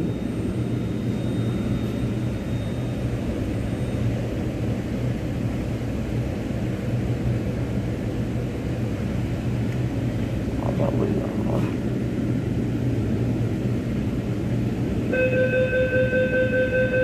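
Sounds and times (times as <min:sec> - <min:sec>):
train car equipment hum: 0:00.0 - 0:17.0.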